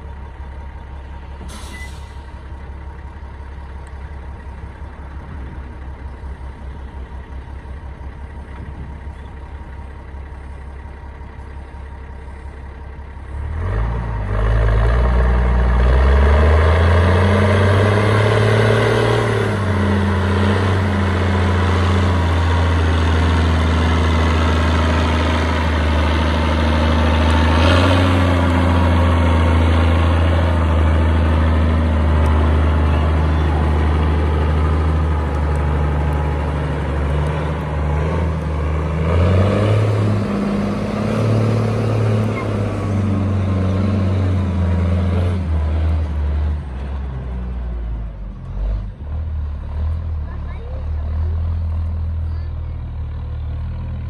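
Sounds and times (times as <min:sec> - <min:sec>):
tractor diesel engine: 0:00.0 - 0:54.0.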